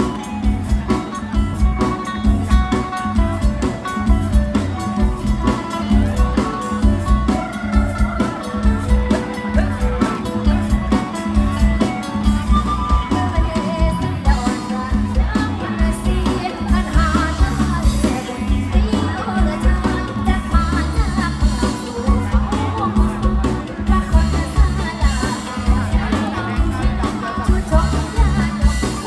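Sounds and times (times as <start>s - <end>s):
bass: 0.0s - 29.0s
plucked-string lead melody: 0.0s - 29.0s
steady drum beat: 0.0s - 29.0s.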